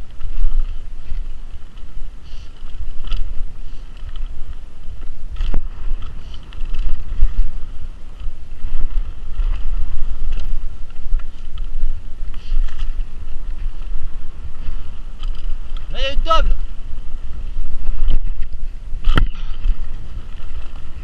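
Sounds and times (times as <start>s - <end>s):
bike rattling: 0.0s - 21.0s
bike tyres rumbling: 0.0s - 21.0s
wind buffeting microphone: 0.0s - 21.0s.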